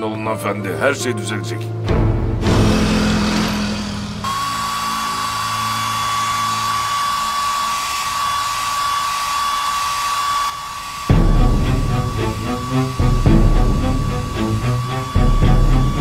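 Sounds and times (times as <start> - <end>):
hair dryer running: 2.8 - 16.0.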